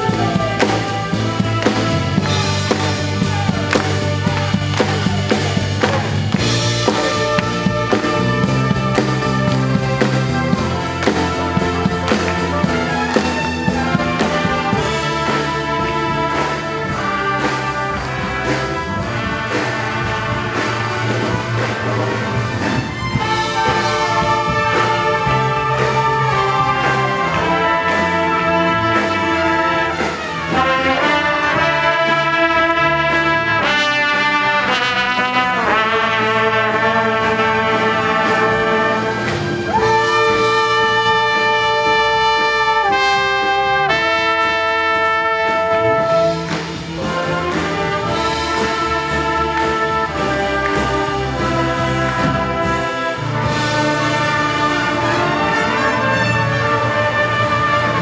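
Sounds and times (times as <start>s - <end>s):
trumpets playing sustained chords: 0.0s - 58.0s.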